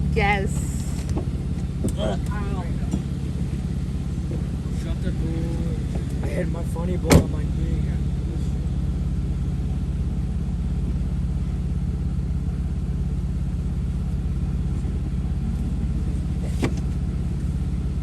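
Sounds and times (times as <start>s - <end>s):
engine running at low speed: 0.0s - 18.0s.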